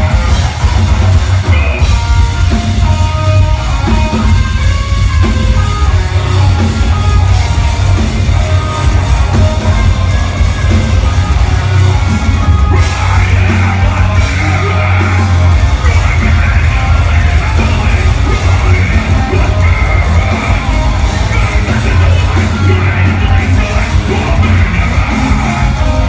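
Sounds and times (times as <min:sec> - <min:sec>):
harsh yelled vocals: 0:00.0 - 0:26.0
metal band playing live: 0:00.0 - 0:26.0.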